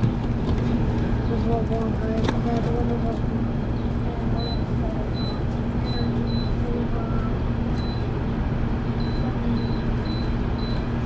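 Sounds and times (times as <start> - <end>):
air conditioner fan and motor hum: 0.0 - 11.0.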